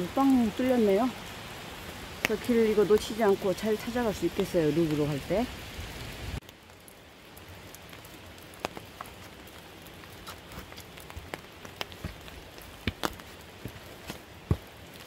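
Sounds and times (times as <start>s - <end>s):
rain falling on umbrella: 0.0s - 15.0s.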